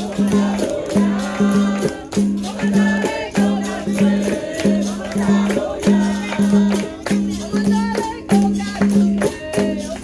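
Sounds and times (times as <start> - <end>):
berimbau rhythm: 0.0 - 10.0
people singing: 0.0 - 10.0
shaker strokes: 0.0 - 10.0
tambourine strokes: 0.0 - 10.0.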